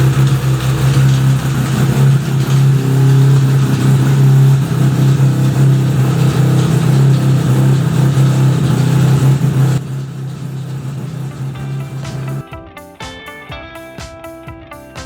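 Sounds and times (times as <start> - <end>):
engine running with low hum: 0.0 - 12.4.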